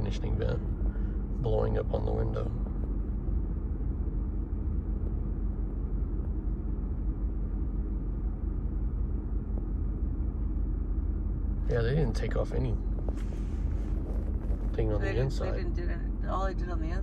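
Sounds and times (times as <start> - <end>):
pickup cab engine rumble: 0.0 - 17.0.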